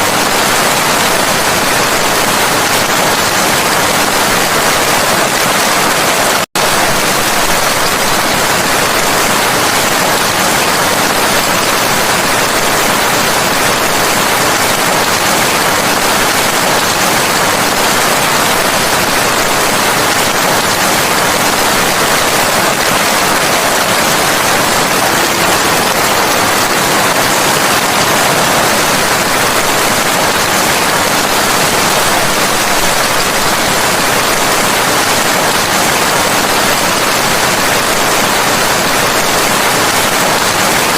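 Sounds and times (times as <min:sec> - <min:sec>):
steady dense rainfall: 0:00.0 - 0:40.9.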